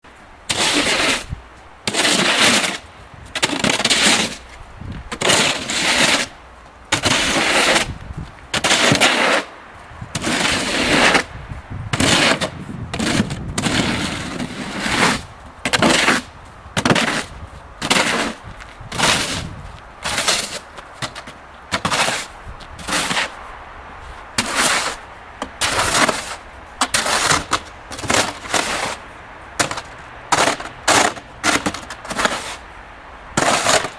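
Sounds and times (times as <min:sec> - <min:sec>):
snow shovel scraping pavement: 0:00.4 - 0:23.4, 0:24.0 - 0:33.9.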